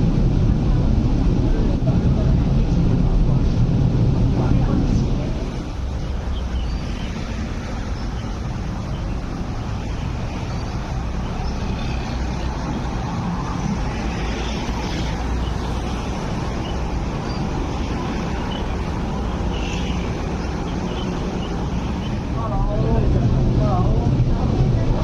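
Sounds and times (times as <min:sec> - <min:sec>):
tram car rumbling on rails: 0:00.0 - 0:25.0.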